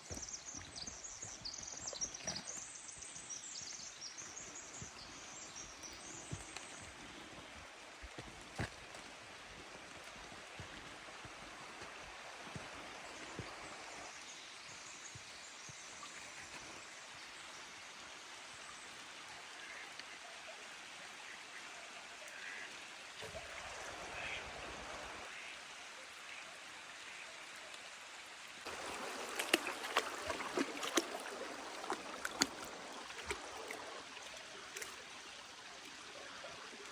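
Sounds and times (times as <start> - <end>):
stream water rushing: 0.0 - 36.9.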